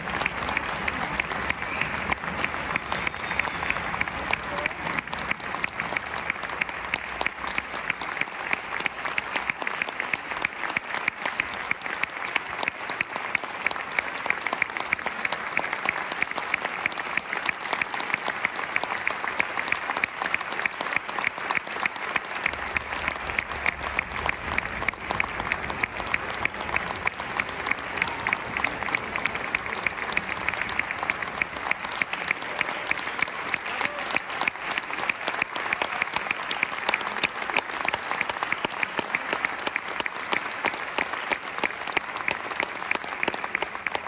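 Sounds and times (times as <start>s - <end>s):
audience applauding: 0.0s - 44.0s.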